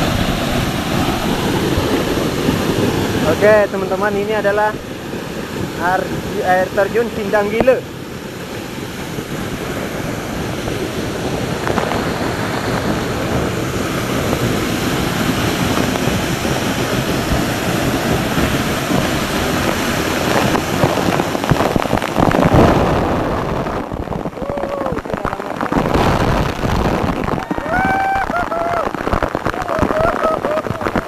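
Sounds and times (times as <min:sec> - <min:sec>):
waterfall crashing: 0:00.0 - 0:31.0.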